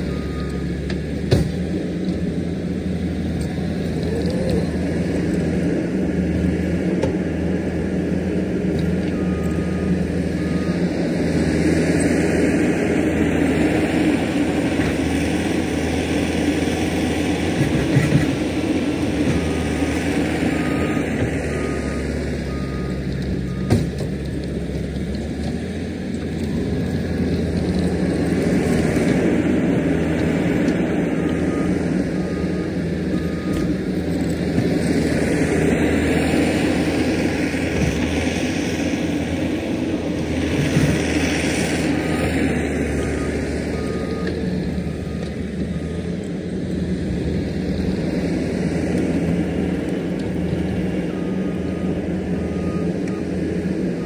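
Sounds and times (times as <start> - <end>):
diesel machinery engine working: 0.0 - 54.0.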